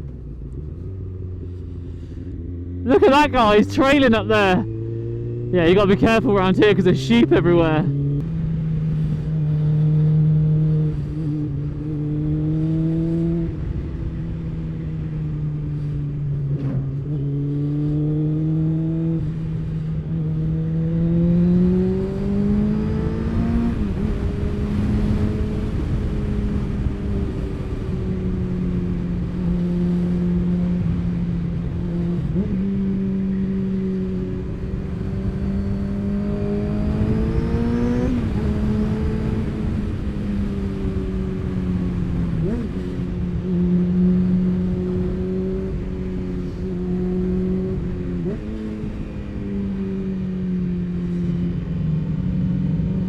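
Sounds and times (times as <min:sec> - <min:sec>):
wind and road noise: 0:00.0 - 0:53.0
motorcycle engine revving: 0:04.6 - 0:05.6, 0:07.8 - 0:51.2.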